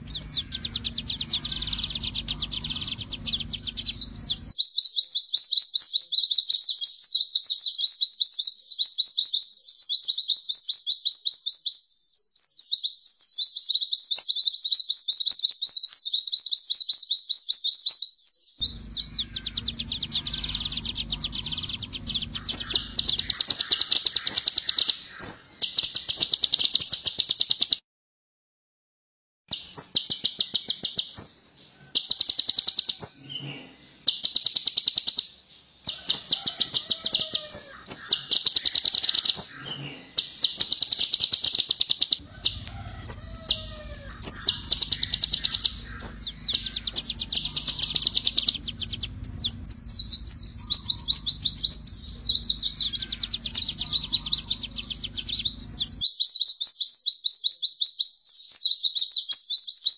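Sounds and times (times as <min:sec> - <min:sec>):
sunbird trilling and twittering: 0:00.0 - 0:17.9, 0:18.5 - 0:27.8, 0:29.5 - 0:56.5.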